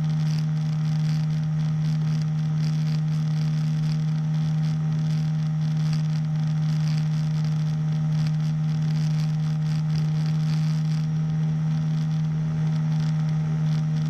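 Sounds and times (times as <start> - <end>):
small engine droning: 0.0 - 14.0.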